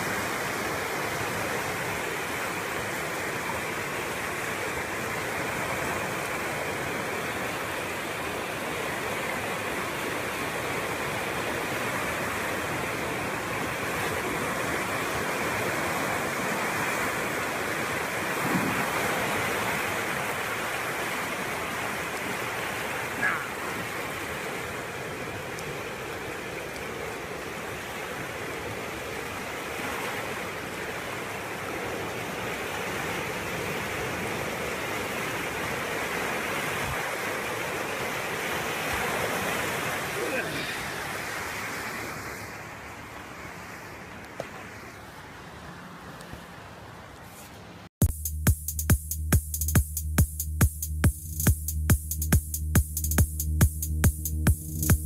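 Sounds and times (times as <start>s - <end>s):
flood water rushing: 0.0s - 47.8s.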